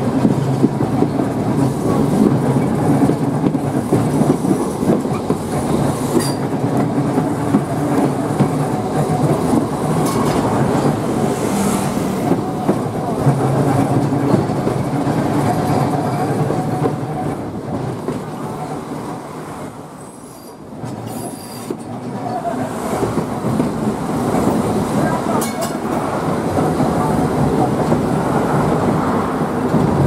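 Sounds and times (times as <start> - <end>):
tram wheels rumbling on rail: 0.0 - 30.0.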